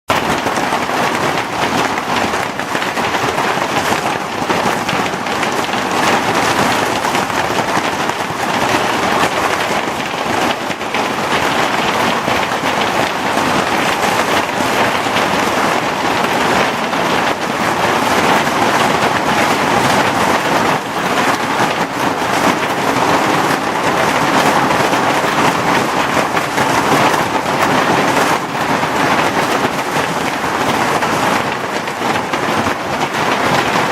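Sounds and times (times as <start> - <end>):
hail clattering: 0.1 - 33.9.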